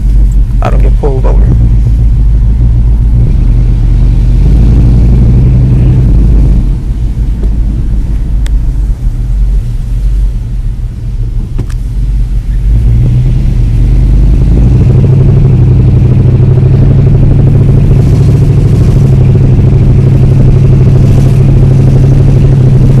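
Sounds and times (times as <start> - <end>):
car exhaust rumble: 0.0 - 23.0.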